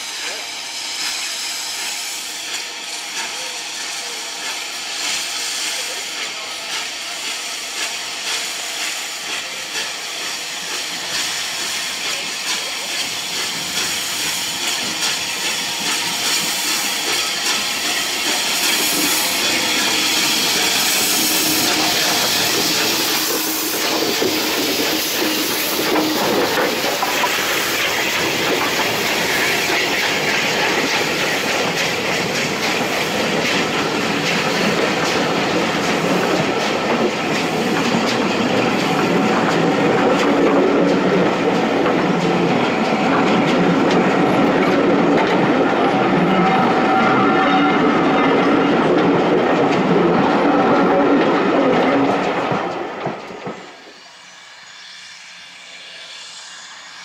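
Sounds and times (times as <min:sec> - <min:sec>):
steam locomotive hissing: 0:00.0 - 0:57.0
train wheels clicking on rails: 0:00.0 - 0:57.0.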